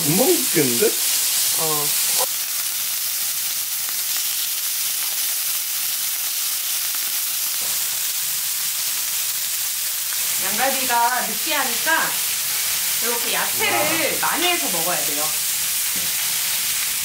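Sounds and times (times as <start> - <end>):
meat sizzling on griddle: 0.0 - 17.0.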